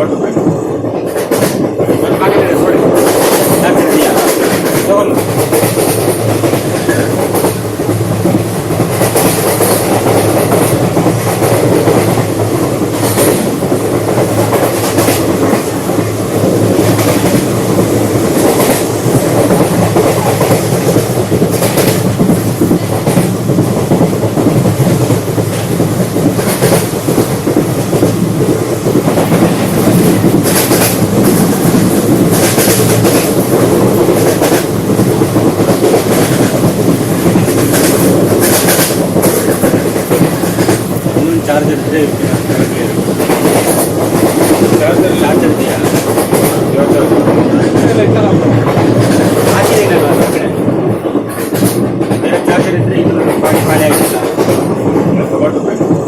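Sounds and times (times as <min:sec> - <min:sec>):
clickety-clack of rail joints: 0:00.0 - 0:56.0
train wheels rumbling on rail: 0:00.0 - 0:56.0.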